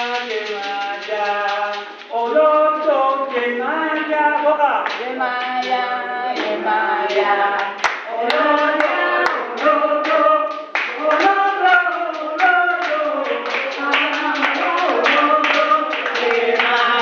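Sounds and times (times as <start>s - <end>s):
hands clapping: 0.0s - 3.2s, 3.9s - 17.0s
voices singing along: 0.0s - 17.0s.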